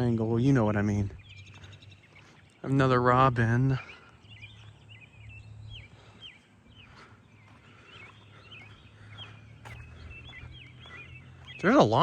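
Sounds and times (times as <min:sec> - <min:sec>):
robin singing: 0:00.0 - 0:12.0.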